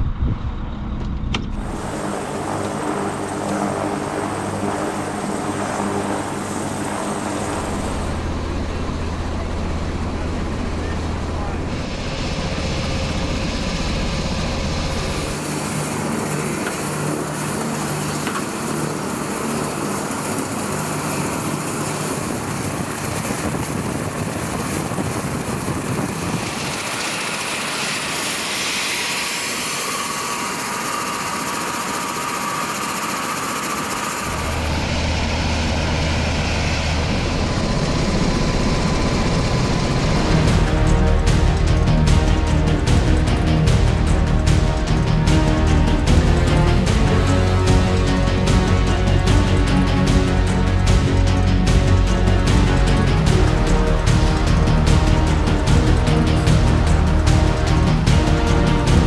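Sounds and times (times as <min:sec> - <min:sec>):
helicopter turbine and rotor noise: 0:00.0 - 0:59.0.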